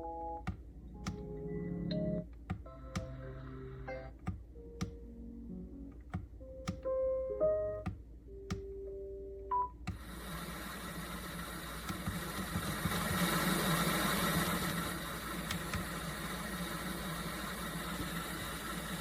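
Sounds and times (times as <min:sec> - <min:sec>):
white noise with low hum: 0:00.0 - 0:19.0
clicks: 0:00.4 - 0:05.1, 0:05.8 - 0:07.0, 0:07.8 - 0:10.2, 0:11.7 - 0:19.0.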